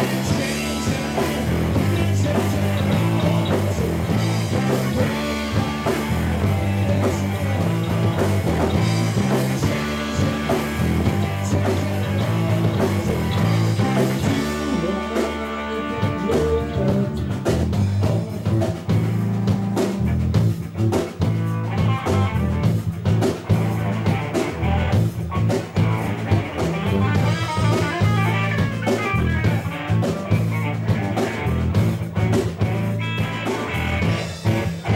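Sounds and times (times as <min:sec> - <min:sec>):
drum kit: 0:00.0 - 0:34.9
electric bass: 0:00.0 - 0:34.9
electric guitar: 0:00.0 - 0:34.9.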